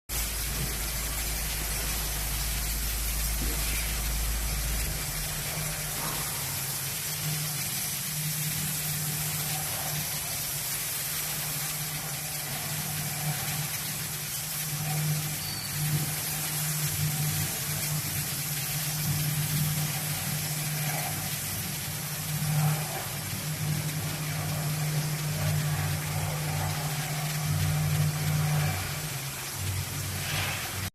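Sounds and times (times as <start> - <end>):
even hiss: 0.1 - 30.9
machine hum: 0.1 - 30.9.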